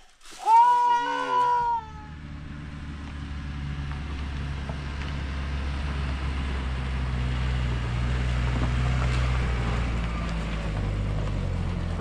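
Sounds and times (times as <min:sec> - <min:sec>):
pickup truck engine labouring: 0:01.8 - 0:12.0.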